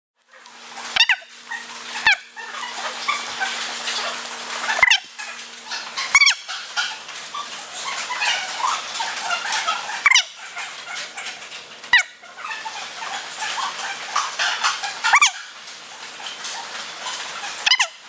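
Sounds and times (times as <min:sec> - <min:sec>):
dogs whimpering and yelping: 0:00.8 - 0:18.0.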